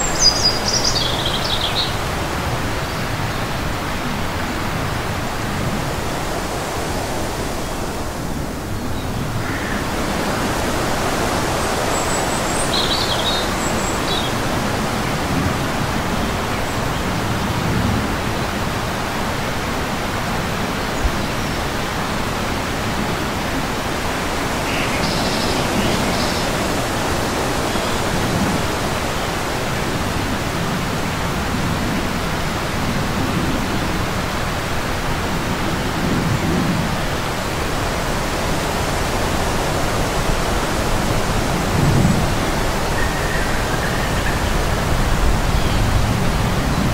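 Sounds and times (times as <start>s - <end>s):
steady rushing noise: 0.0s - 46.9s.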